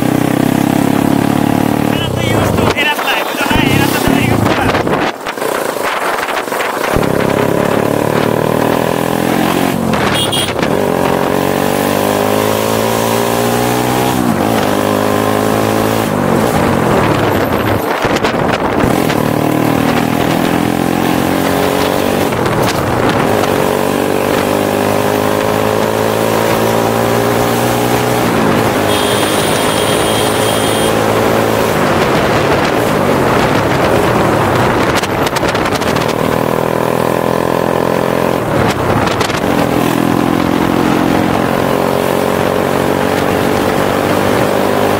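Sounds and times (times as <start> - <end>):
wind rushing over microphone: 0.0 - 30.0, 30.9 - 44.9
motorcycle engine accelerating: 0.0 - 44.9.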